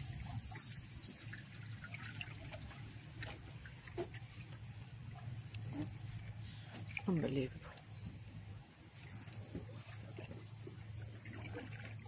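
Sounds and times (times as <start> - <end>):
water trickling and dripping: 0.0 - 12.0.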